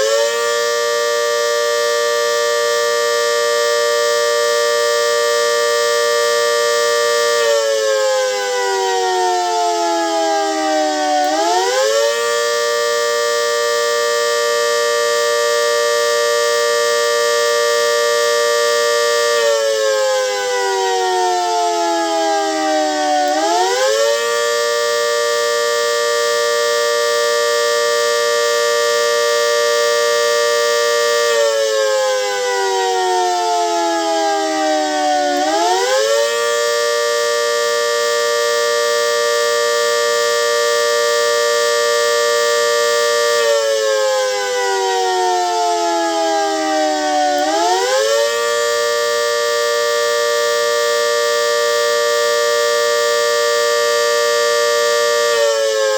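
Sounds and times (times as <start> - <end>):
warning siren two-note chord: 0.0 - 55.9.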